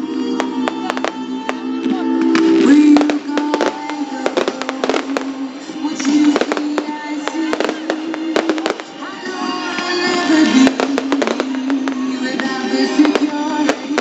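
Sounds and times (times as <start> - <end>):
music playing: 0.0 - 14.0
fireworks bangs and crackles: 0.2 - 14.0.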